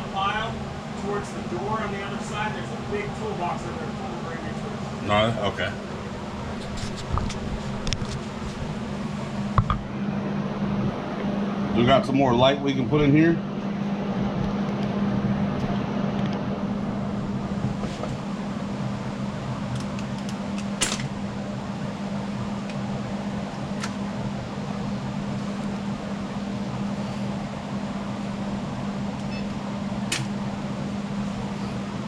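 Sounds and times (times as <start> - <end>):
mechanical motor hum: 0.0 - 32.0.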